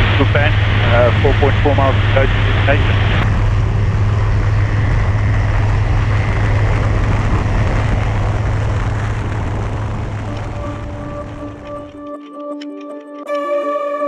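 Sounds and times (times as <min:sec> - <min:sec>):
light aircraft engine droning: 0:00.0 - 0:12.4.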